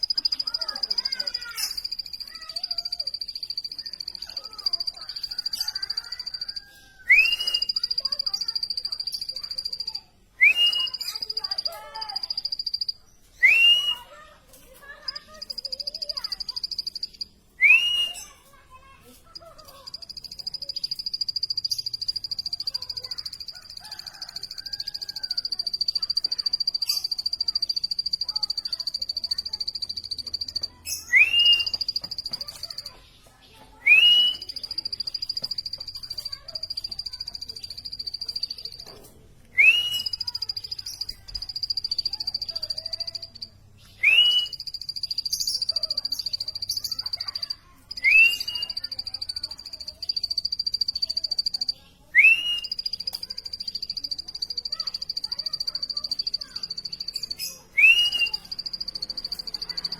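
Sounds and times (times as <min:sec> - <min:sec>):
bird buzzy trills: 0:00.0 - 0:13.0, 0:19.3 - 0:33.0, 0:34.0 - 0:38.9, 0:39.7 - 0:59.9.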